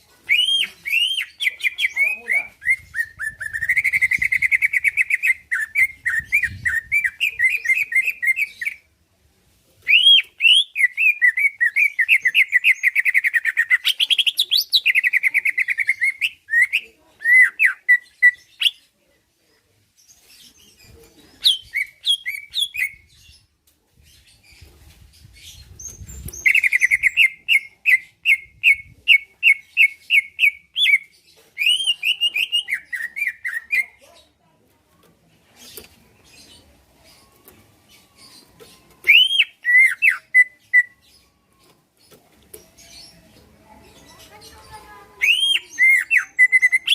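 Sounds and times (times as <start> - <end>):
bird singing chattering phrases: 0.0 - 8.9, 9.9 - 19.0, 20.1 - 23.5, 24.1 - 34.4, 35.0 - 46.9.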